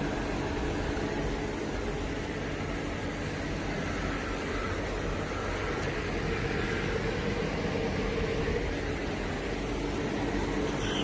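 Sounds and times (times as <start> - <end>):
air conditioner fan whoosh: 0.0 - 11.0
constant low hum: 0.0 - 11.0.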